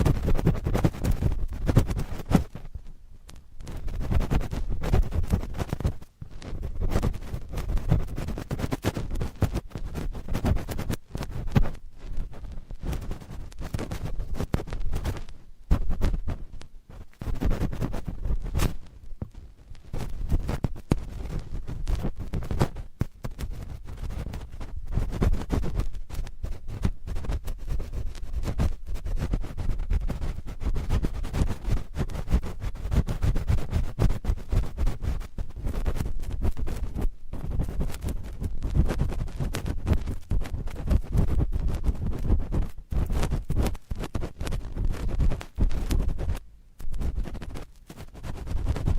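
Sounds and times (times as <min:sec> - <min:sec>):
swabs scratching on a microphone: 0:00.0 - 0:48.9.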